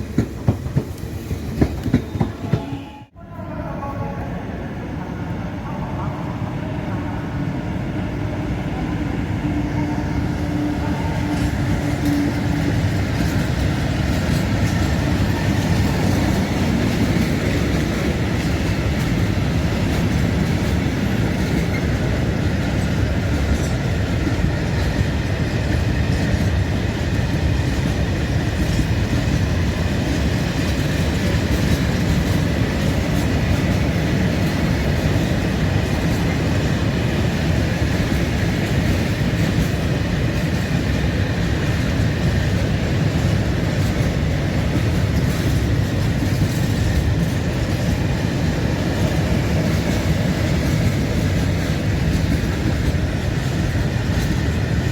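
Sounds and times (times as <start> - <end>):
train wheels rumbling on rails: 0.0 - 3.2, 7.4 - 54.9.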